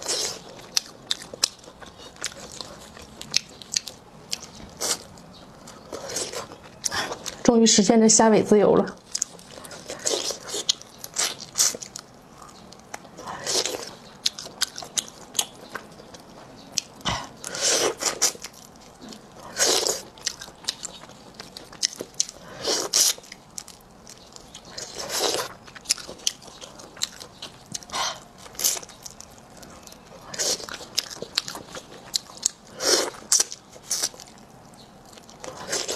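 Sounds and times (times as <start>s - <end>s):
crunchy bites and chewing: 0.0s - 7.4s, 9.0s - 35.9s.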